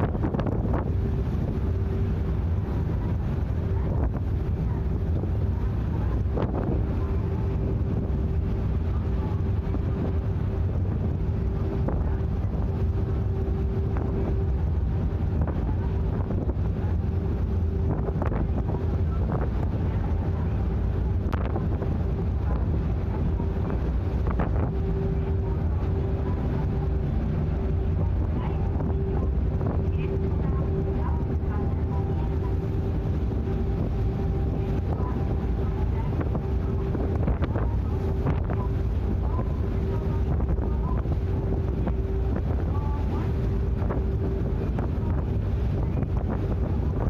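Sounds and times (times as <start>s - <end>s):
ship engine rumble: 0.0s - 47.0s
wind buffeting microphone: 0.0s - 47.0s.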